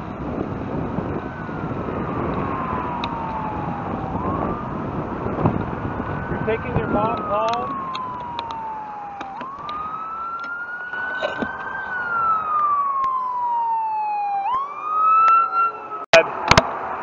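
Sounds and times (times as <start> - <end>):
fire truck siren wailing: 0.1 - 16.6.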